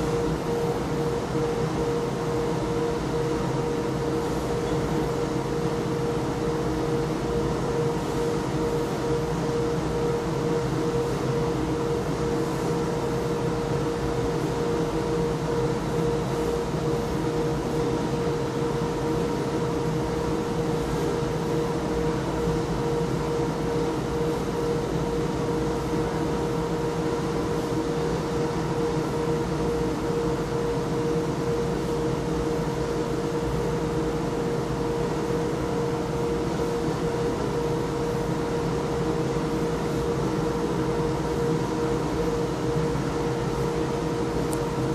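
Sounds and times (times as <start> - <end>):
high mechanical whine: 0.0 - 44.9.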